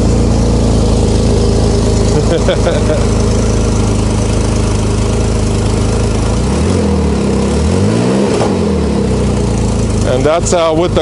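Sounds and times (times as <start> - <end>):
car engine idling: 0.0 - 11.0
engine revving: 0.0 - 11.0.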